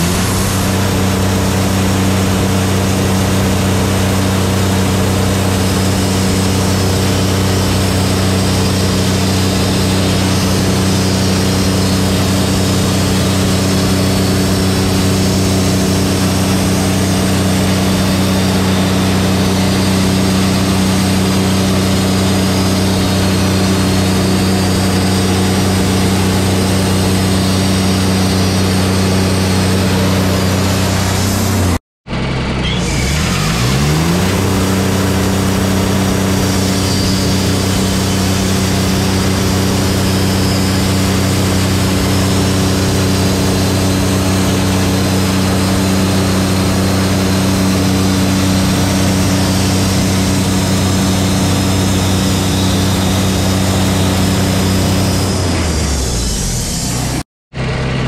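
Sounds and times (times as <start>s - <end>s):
band saw cutting log: 0.0s - 58.0s
engine speeding up: 0.0s - 58.0s.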